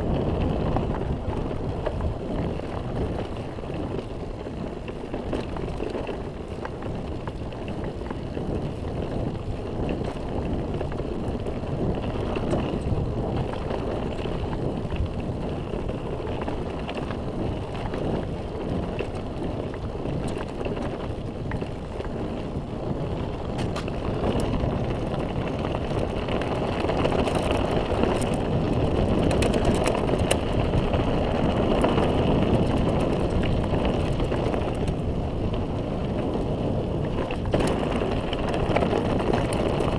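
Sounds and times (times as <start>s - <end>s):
bike rattling: 0.0s - 39.9s
tyres rumbling on gravel: 0.0s - 39.9s.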